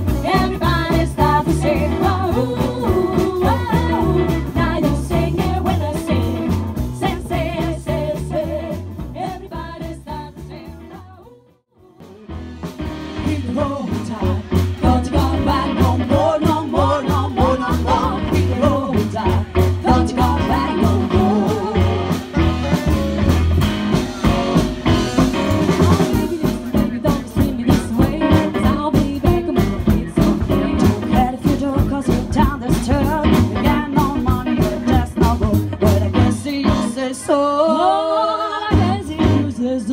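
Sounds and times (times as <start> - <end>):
upright double bass: 0.0 - 11.2, 12.2 - 37.0, 38.7 - 39.6
drum kit: 0.0 - 37.1, 38.5 - 39.6
women singing together: 0.1 - 12.1, 13.2 - 22.1, 26.0 - 39.9.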